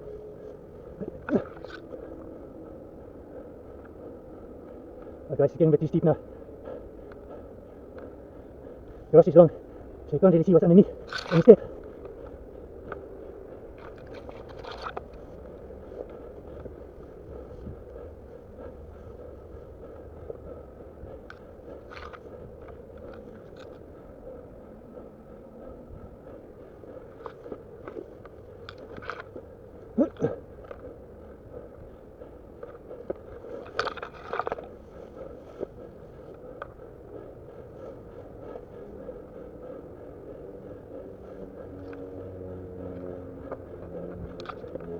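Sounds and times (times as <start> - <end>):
steady low background: 0.0 - 44.9.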